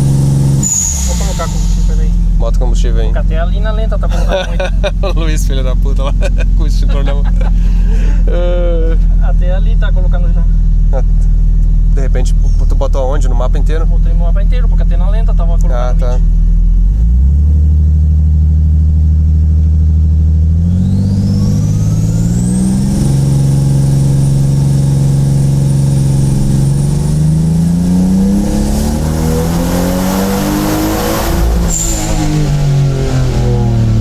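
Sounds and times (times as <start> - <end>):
high whine: 0.0 - 16.4, 20.2 - 34.0
car engine revving: 0.0 - 34.0.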